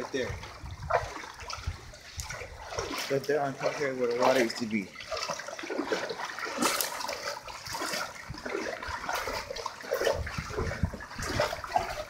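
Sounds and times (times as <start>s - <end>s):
wading through sloshing water: 0.0s - 12.0s.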